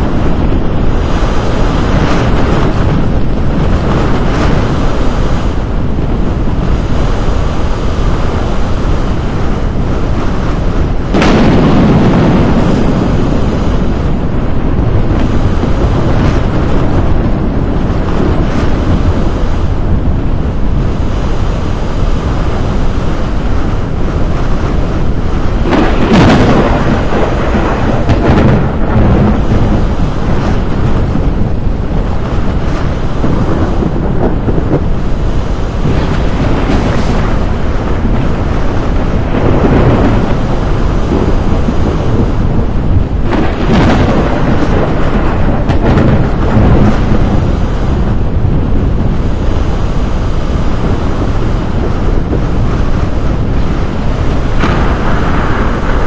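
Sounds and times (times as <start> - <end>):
rain: 0.0 - 56.0
thunder rumbling: 0.0 - 56.0.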